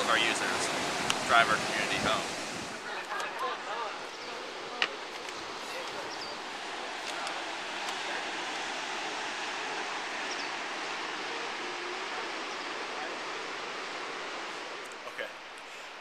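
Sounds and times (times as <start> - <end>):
ocean surf washing over rocks: 0.0 - 16.0.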